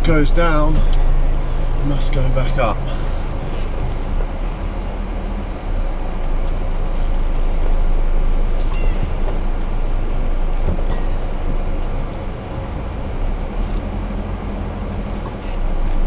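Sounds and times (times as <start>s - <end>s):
truck diesel engine in cab: 0.0s - 16.0s.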